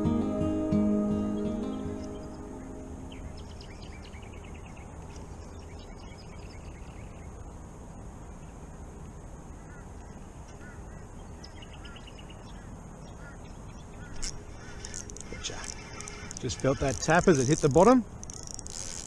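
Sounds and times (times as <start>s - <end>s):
birds chirping: 0.0s - 8.8s, 9.5s - 19.0s
steady low hiss: 0.0s - 19.0s.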